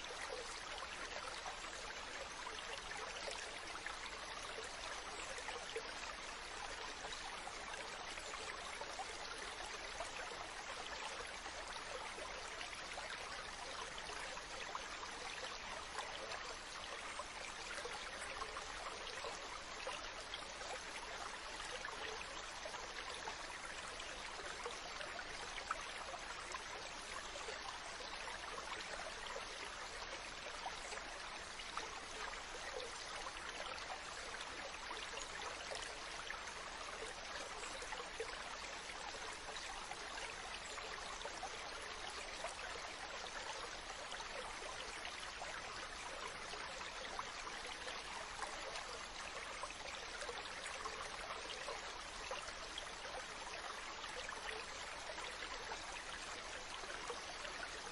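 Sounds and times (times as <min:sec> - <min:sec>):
stream water flowing: 0:00.0 - 0:57.9.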